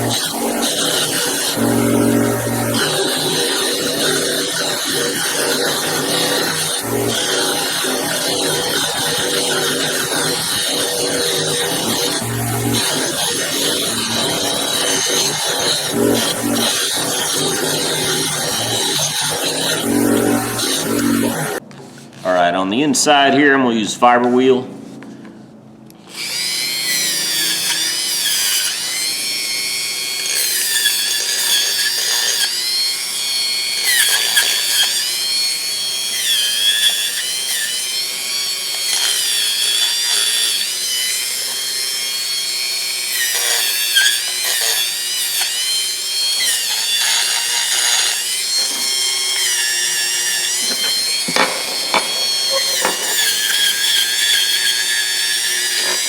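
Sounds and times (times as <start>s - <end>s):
rotary tool high-pitched whine: 0.0s - 21.6s, 26.0s - 56.0s.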